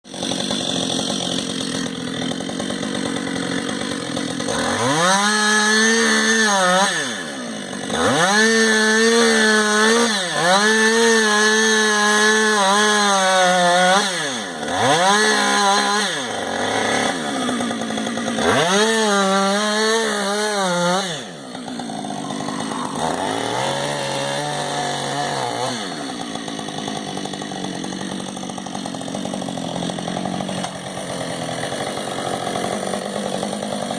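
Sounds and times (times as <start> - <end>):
chainsaw revving and idling: 0.0 - 33.9.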